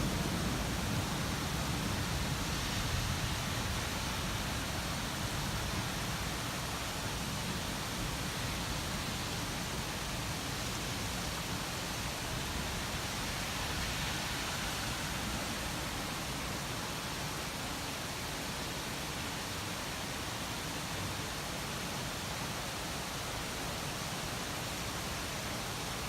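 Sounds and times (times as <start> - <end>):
rain-like white noise hiss: 0.0 - 26.0.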